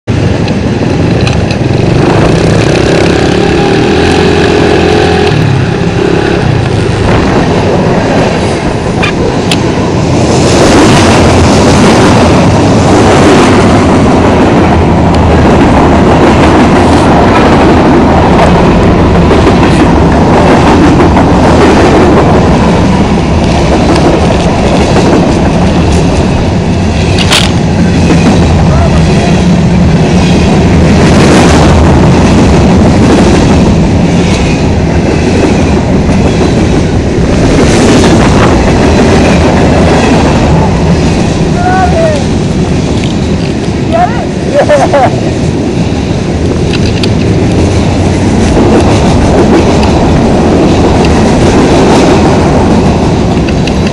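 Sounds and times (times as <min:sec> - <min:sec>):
freight train passing: 0:00.0 - 0:53.9
loud rushing noise: 0:00.1 - 0:53.9.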